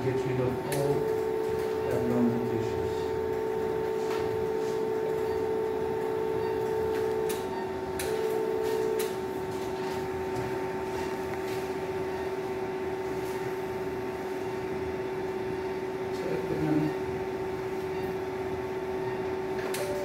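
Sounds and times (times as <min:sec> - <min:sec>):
electrosurgical generator tone: 0:00.0 - 0:20.0.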